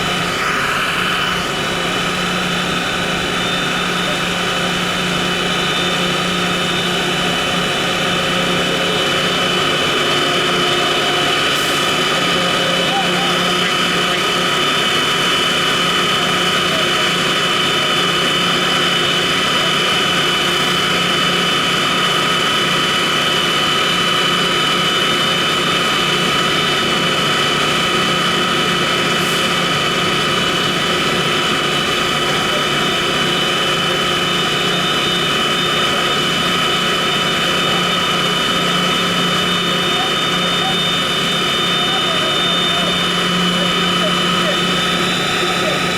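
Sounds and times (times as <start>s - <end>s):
constant whine: 0.0s - 45.9s
large engine running: 0.0s - 45.9s.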